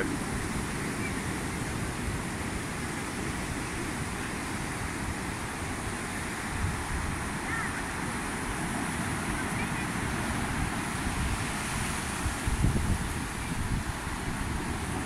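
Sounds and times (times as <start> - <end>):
breaking surf: 0.0 - 15.0
wind rumbling on microphone: 0.0 - 15.0.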